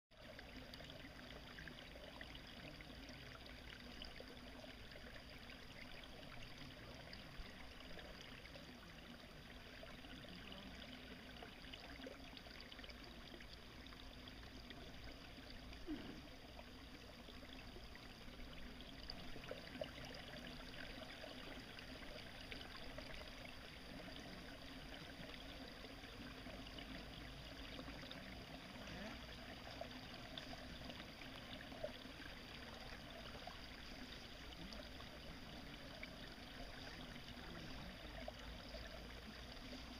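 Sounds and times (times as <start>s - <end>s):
water trickling: 0.1s - 39.9s.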